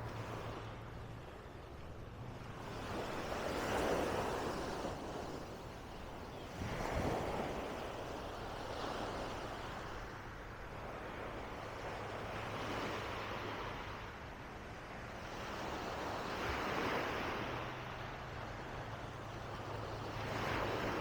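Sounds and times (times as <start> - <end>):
waves washing up on sandy beach: 2.4 - 21.0.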